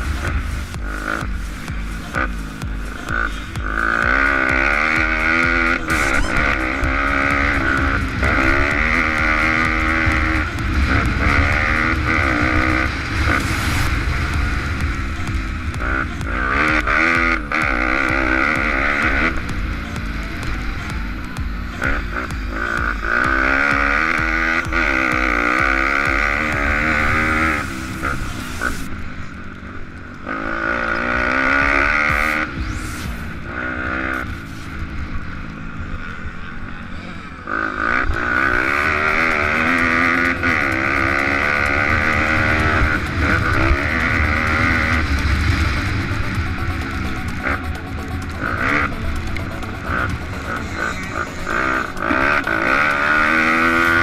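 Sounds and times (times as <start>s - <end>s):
pit bike engines revving: 0.0s - 54.0s.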